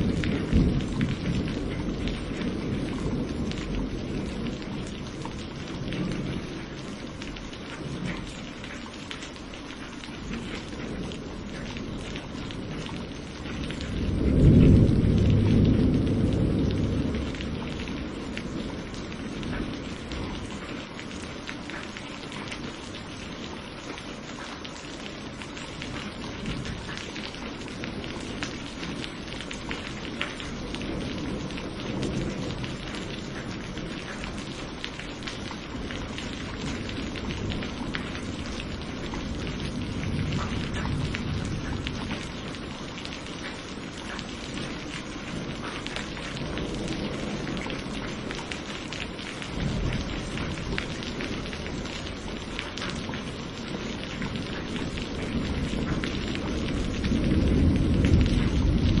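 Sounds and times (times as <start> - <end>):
thunder rumbling: 0.0 - 8.7, 9.8 - 21.8, 25.1 - 59.0
steady rain: 0.0 - 59.0
water dripping: 0.0 - 59.0.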